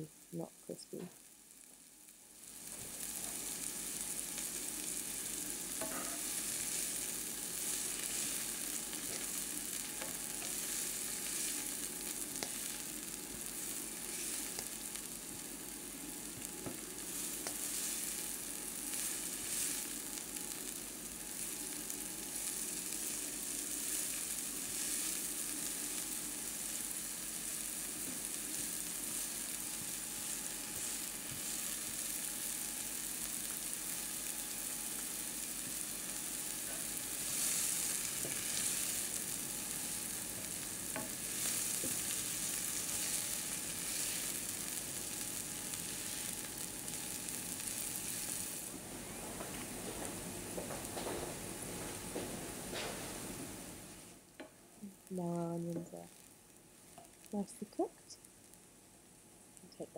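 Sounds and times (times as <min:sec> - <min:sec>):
onions sizzling in a frying pan: 0:00.0 - 0:59.9.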